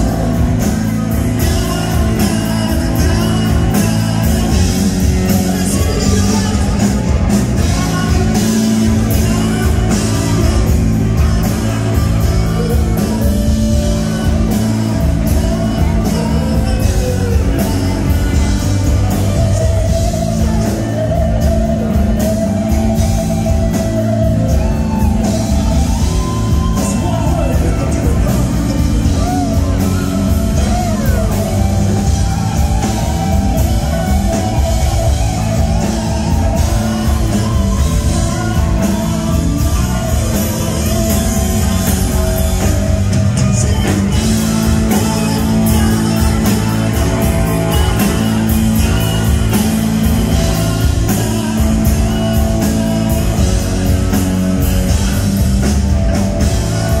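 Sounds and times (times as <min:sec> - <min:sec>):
drums: 0:00.0 - 0:57.0
electric guitar: 0:00.0 - 0:57.0
keyboards: 0:00.0 - 0:57.0
lead singer singing: 0:00.0 - 0:57.0.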